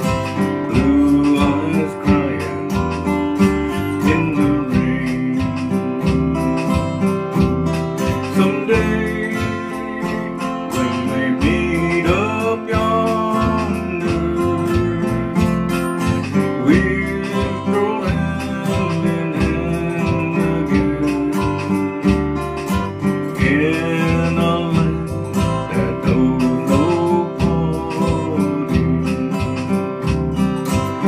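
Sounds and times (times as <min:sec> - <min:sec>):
strummed acoustic guitar: 0:00.0 - 0:31.0.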